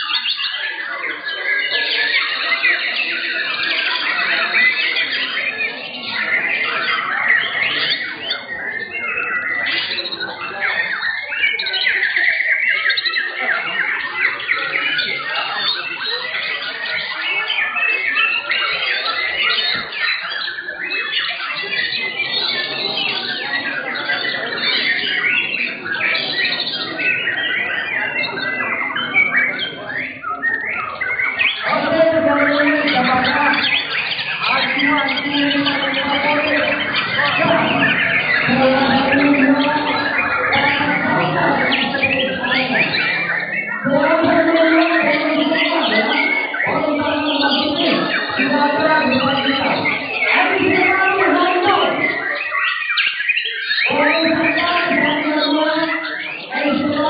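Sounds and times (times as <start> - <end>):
birds singing in chorus: 0.0 - 57.0.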